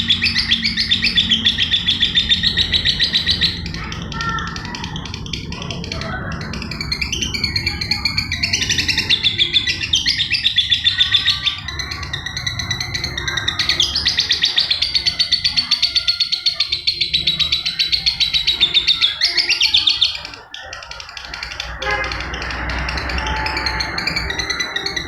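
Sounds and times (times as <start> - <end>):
lovebird chirping: 0.0 - 25.0.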